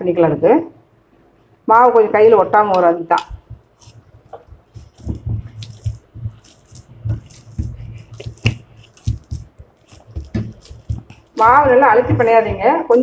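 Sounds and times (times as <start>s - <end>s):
hands kneading wet dough: 2.4s - 13.0s.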